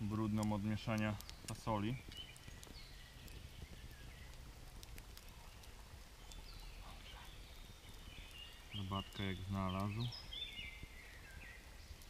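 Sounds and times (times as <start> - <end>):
campfire crackling and popping: 0.0 - 12.0
faint bird chirps: 0.7 - 4.4, 5.2 - 12.0.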